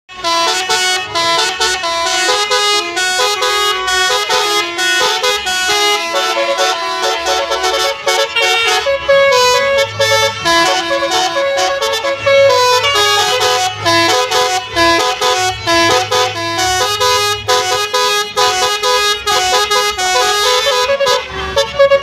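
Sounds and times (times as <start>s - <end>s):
multi-trumpet bus horn tune: 0.1s - 22.0s.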